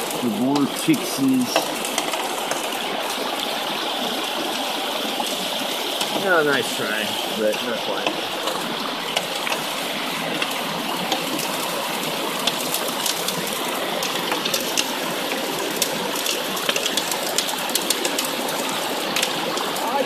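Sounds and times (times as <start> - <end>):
water gushing down metal sluice: 0.0 - 20.0.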